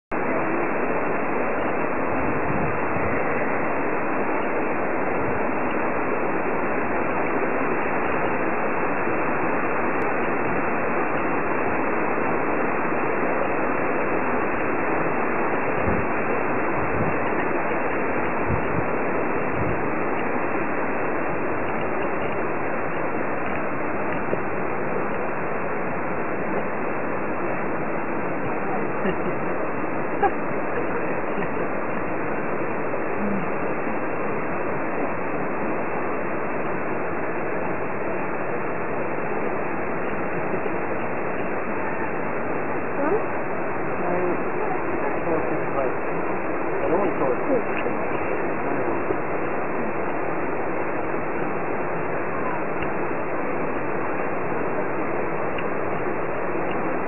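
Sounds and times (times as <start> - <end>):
flowing water rushing: 0.1 - 57.0.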